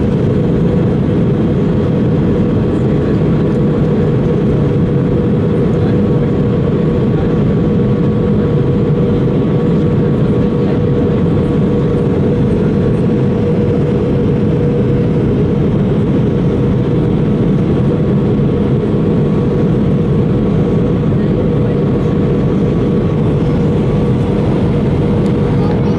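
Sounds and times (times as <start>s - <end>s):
airplane cabin drone: 0.0s - 25.9s.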